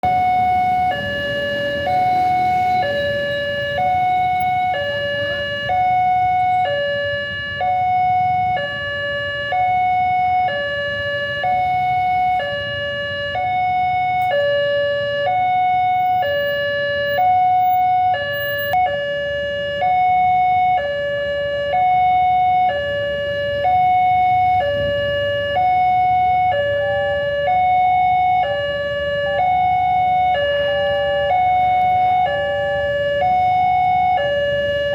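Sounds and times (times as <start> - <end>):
level crossing two-tone alarm: 0.0 - 34.9.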